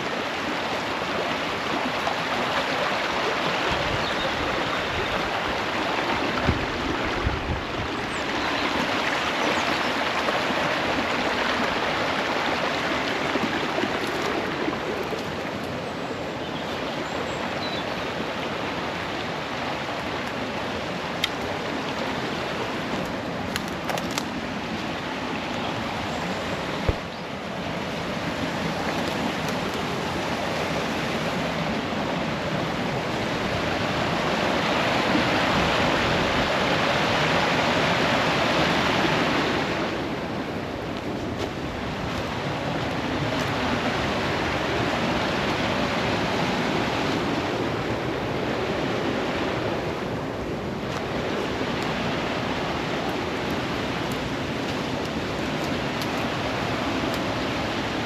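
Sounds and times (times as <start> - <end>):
rushing running water: 0.0 - 58.0.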